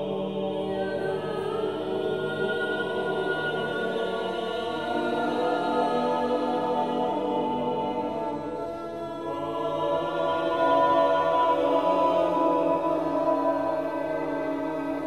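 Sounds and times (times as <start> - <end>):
unaccompanied choir singing: 0.0 - 15.0.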